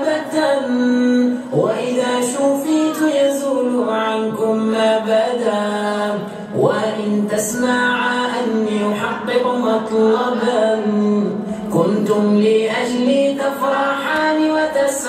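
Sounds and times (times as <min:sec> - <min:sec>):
person singing ornamented melody: 0:00.0 - 0:15.0.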